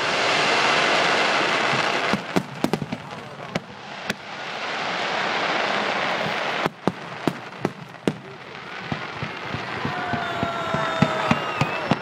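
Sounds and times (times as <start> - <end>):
fireworks crackling hiss: 0.0 - 12.0.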